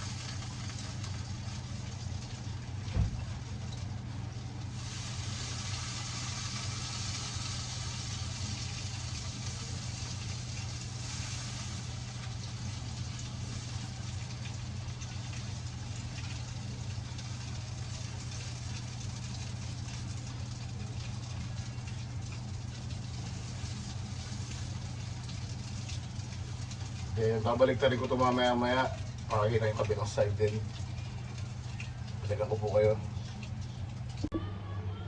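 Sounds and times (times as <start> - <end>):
duck skin crackling and popping: 0.0 - 27.2, 27.8 - 34.3
oven humming: 0.0 - 35.0.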